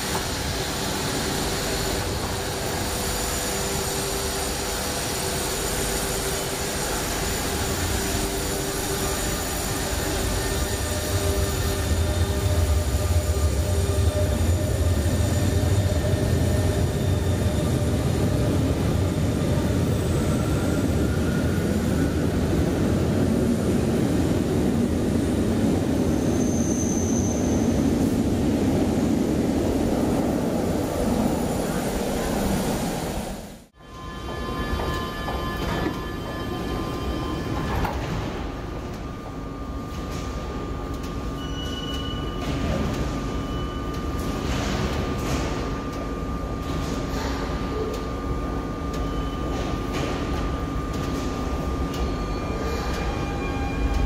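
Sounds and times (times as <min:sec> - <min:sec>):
electric train equipment hum: 0:00.0 - 0:26.4, 0:27.6 - 0:54.0
train wheels and motors rumbling: 0:00.0 - 0:54.0.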